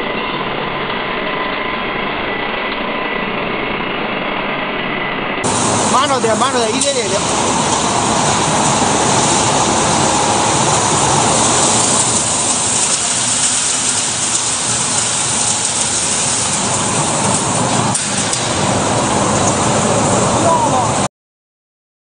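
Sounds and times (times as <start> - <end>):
blower rushing air: 0.0 - 21.1.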